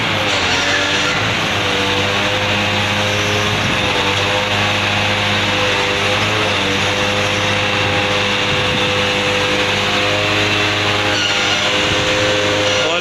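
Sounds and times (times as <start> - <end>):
diesel truck engine running: 0.0 - 13.0
high whine: 0.0 - 13.0.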